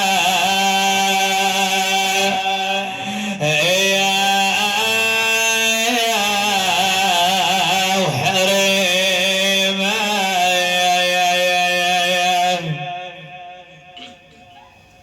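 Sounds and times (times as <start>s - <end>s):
man chanting: 0.0s - 14.6s.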